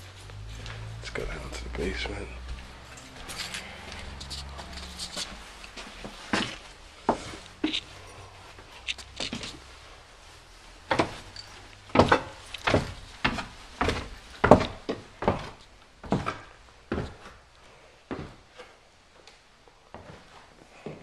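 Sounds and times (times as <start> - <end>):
heavy footsteps down stairs: 0.0 - 19.2, 19.9 - 21.0.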